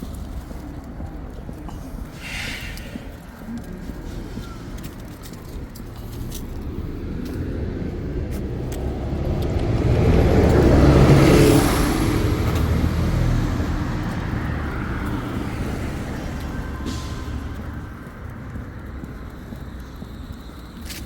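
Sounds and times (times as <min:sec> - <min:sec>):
car passing by: 0:00.0 - 0:21.0.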